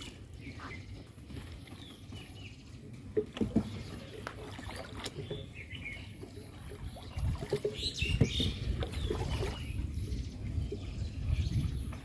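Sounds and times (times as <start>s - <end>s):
birds chirping: 0.0s - 12.0s
water against a boat hull: 0.0s - 12.0s.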